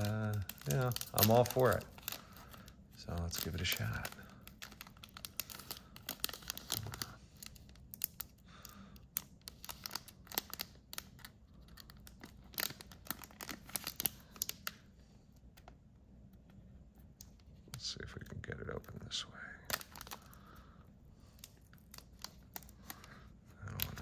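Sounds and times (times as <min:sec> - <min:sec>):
wrapping being torn and crinkled: 0:00.0 - 0:24.0.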